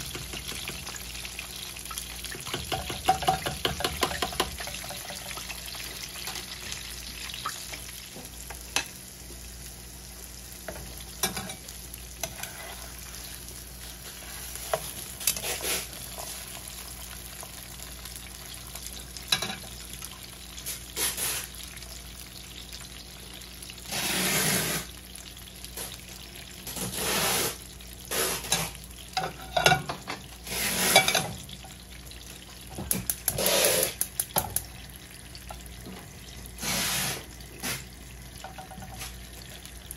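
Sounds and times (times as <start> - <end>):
fish sizzling in a skillet: 0.0 - 39.9.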